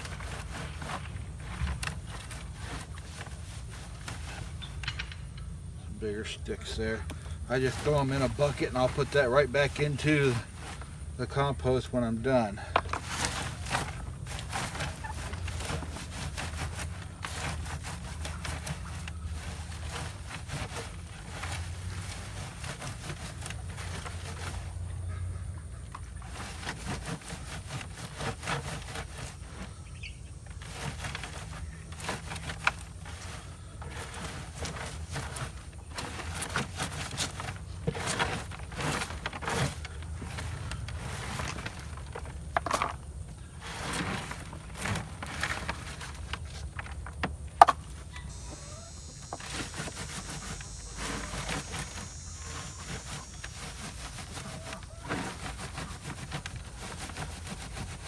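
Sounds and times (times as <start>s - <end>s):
compost scraped through sifting screen: 0.0s - 5.0s, 5.9s - 58.0s.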